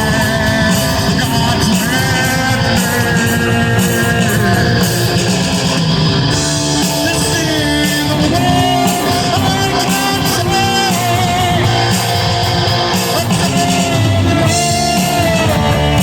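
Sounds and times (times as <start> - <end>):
rock music with distorted guitar: 0.0 - 16.0.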